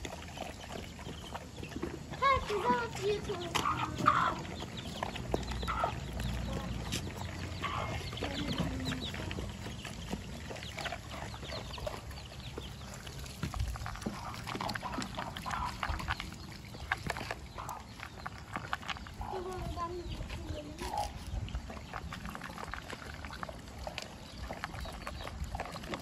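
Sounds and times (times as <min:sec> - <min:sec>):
clicks of pecking and chewing: 0:00.0 - 0:26.0
clucks and grunts: 0:00.0 - 0:26.0.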